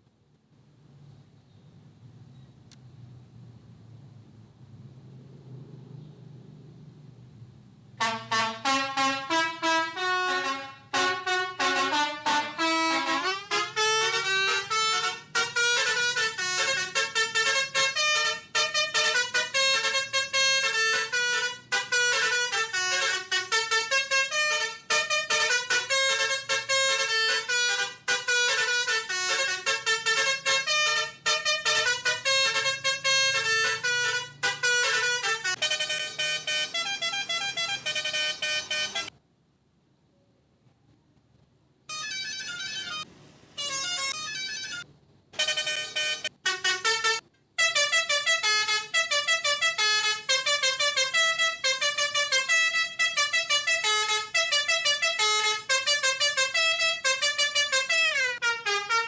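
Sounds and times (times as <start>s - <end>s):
bus horn melody: 8.0s - 39.1s, 41.9s - 44.8s, 45.4s - 59.0s.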